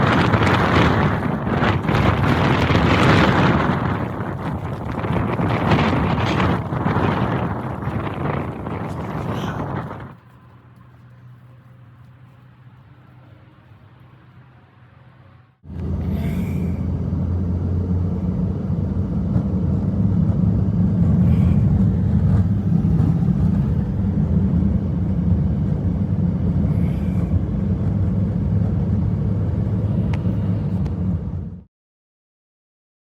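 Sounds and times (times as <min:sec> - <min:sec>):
strong blizzard wind: 0:00.0 - 0:11.1, 0:15.6 - 0:31.7.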